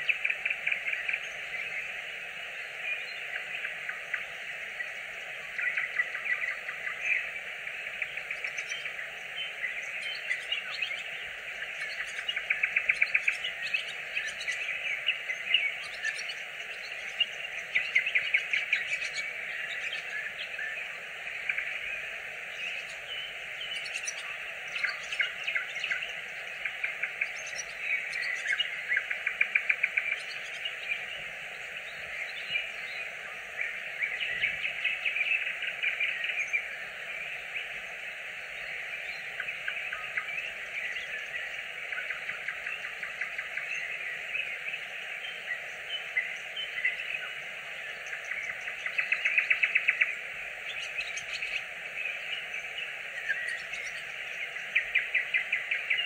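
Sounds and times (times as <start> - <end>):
nightingale singing: 0.0 - 56.0.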